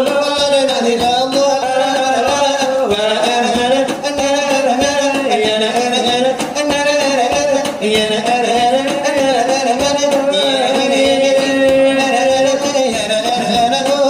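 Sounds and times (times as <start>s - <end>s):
brass tray beaten rhythmically: 0.0s - 14.0s.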